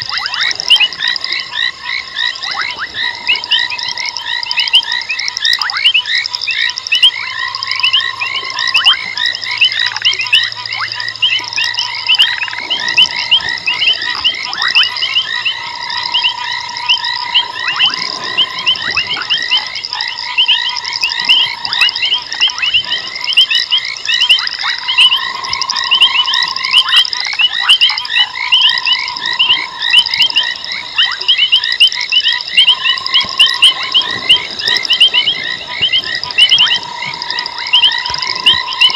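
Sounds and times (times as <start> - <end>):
frogs chirping: 0.0 - 38.9
long low frog note: 0.0 - 38.9.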